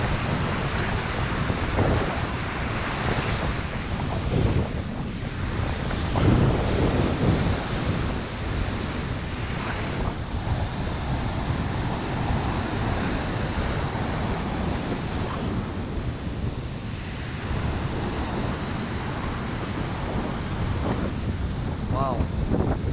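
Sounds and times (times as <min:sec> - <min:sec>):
surf washing over sand: 0:00.0 - 0:22.9
wind buffeting microphone: 0:00.0 - 0:22.9.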